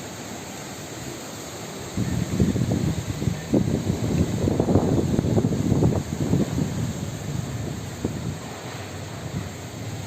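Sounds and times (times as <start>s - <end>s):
wind buffeting microphone: 1.8s - 10.0s.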